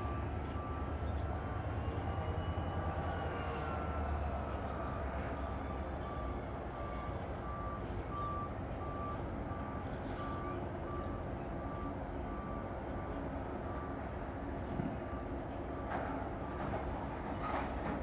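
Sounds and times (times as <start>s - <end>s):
vehicle backup alarm beeping: 0.0s - 3.9s, 4.5s - 16.6s.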